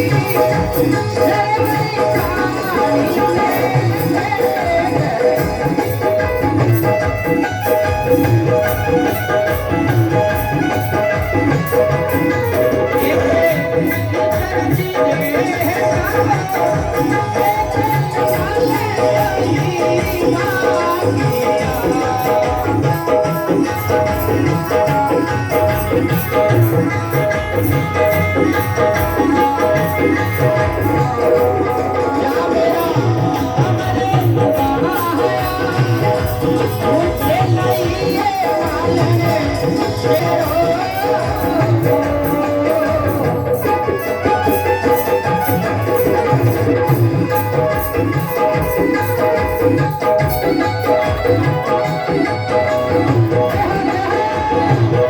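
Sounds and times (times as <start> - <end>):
hand-drum beat: 0.0 - 55.0
jingling percussion: 0.0 - 55.0.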